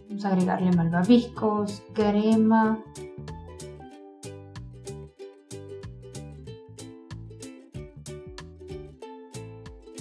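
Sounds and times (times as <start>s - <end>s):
plucked-string melody: 0.0s - 10.0s.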